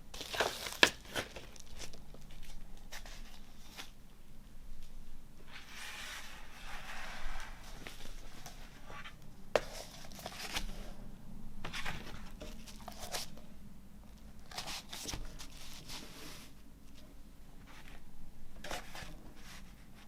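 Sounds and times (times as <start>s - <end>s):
paper and plastic sleeves rustling: 0.0s - 4.0s, 4.8s - 11.0s, 11.6s - 13.5s, 14.1s - 20.0s.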